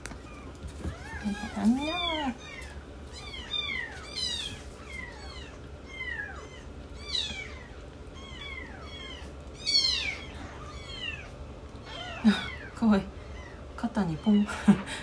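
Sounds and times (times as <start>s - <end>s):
kittens mewing: 0.2s - 14.6s.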